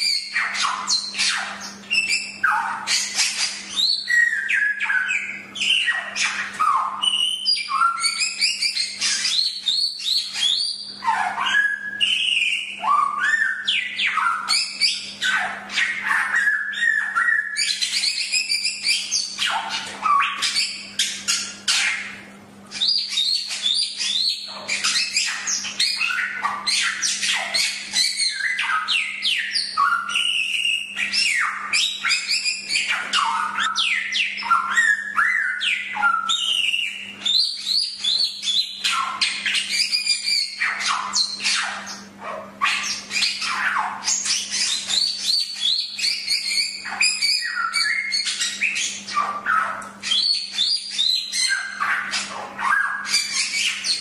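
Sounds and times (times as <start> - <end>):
bird whistling and chirping: 0.0 - 54.0.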